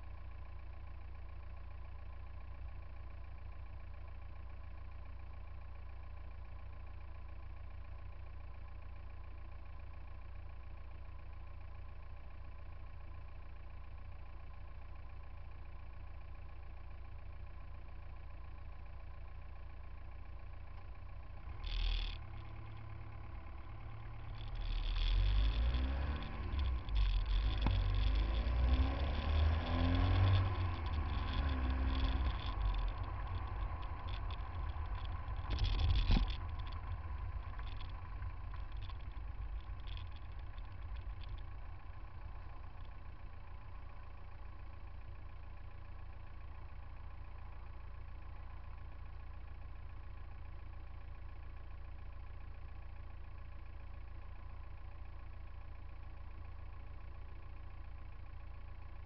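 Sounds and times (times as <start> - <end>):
car engines in traffic: 0.0 - 59.0.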